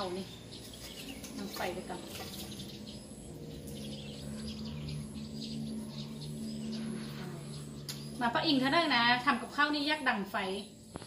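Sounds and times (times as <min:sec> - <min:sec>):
birds chirping: 0:00.0 - 0:11.0
insects: 0:00.0 - 0:11.0
low steady hum: 0:00.0 - 0:11.0.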